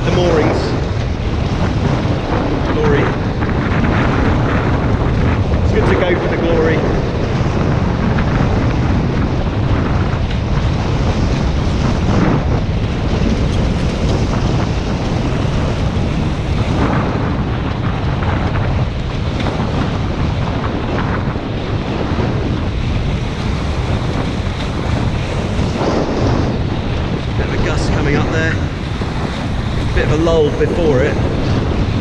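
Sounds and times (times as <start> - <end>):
water rushing and splashing: 0.0 - 32.0
wind buffeting microphone: 0.0 - 32.0.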